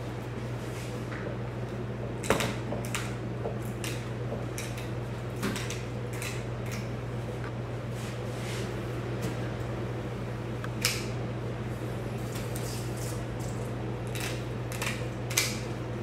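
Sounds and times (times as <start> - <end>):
low fan hum: 0.0 - 16.0.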